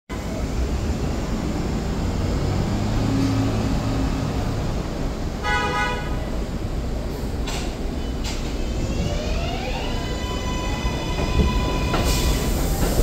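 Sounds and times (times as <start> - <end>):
subway train humming: 0.1 - 13.0.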